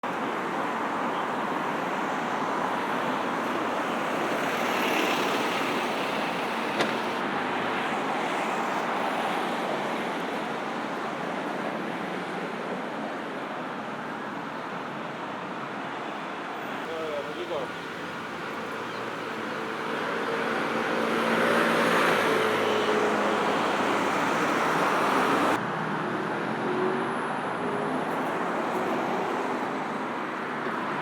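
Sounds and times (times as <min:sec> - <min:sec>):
road traffic: 0:00.0 - 0:31.0.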